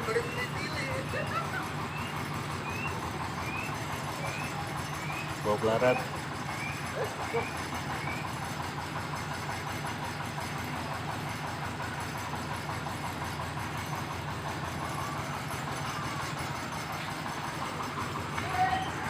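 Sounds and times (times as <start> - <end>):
corn sheller engine drone: 0.0 - 19.0.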